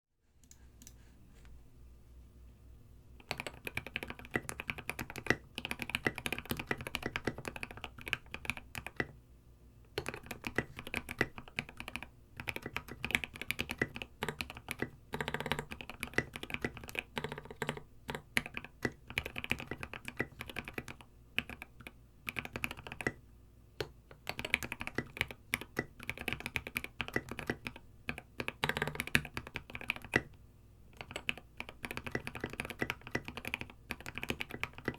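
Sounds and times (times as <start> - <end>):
fast typing on mechanical keyboard: 3.2 - 9.2, 10.0 - 23.2, 23.8 - 30.4, 31.0 - 34.9.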